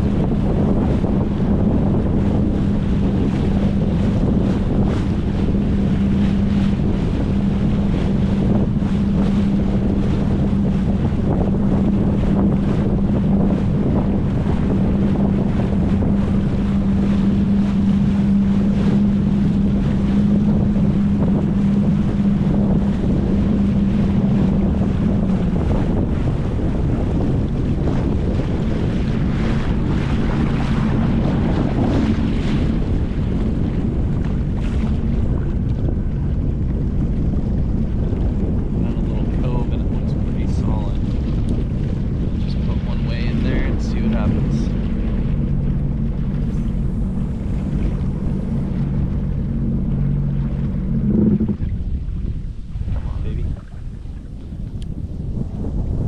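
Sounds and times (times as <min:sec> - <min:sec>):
boat motor humming: 0:00.0 - 0:56.0
wind noise on microphone: 0:00.0 - 0:56.0.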